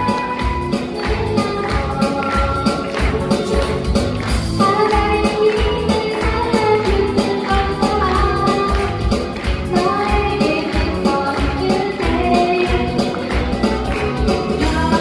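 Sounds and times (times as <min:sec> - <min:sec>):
instrumental music with beat: 0:00.0 - 0:15.0
person singing: 0:00.0 - 0:15.0.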